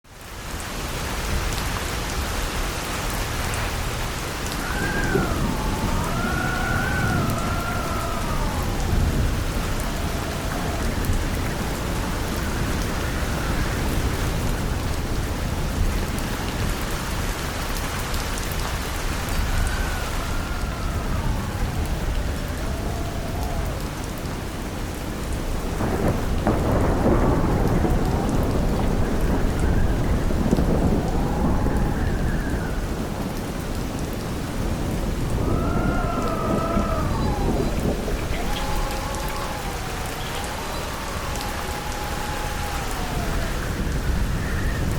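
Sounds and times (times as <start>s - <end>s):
heavy rain: 0.0s - 44.9s
wind howling: 3.2s - 44.9s.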